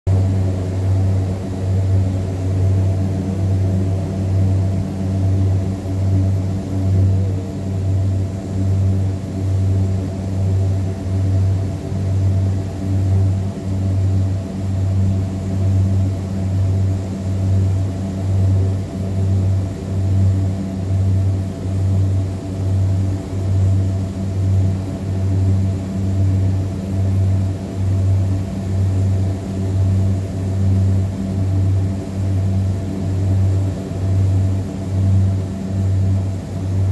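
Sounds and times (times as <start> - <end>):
aircraft radial engines droning: 0.1 - 36.9.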